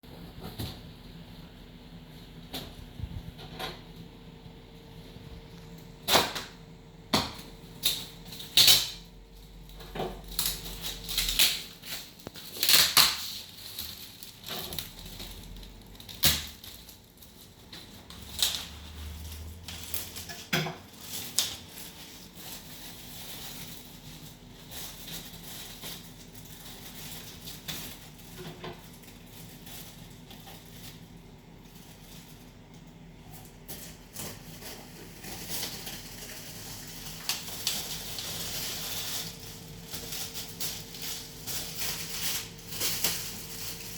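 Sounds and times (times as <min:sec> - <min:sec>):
packaging being handled: 0:07.8 - 0:43.9.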